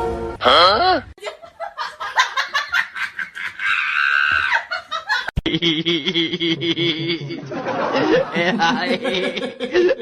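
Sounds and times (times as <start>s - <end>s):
person laughing: 1.2s - 10.0s.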